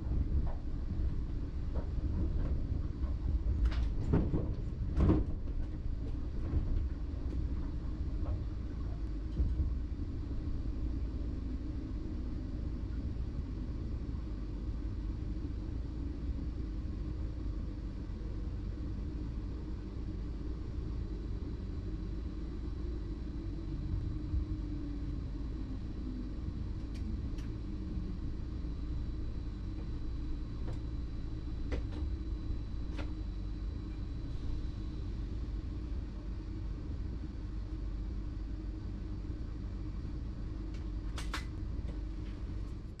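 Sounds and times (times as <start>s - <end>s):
train low rumble: 0.0s - 43.0s
faint high whine: 8.0s - 43.0s.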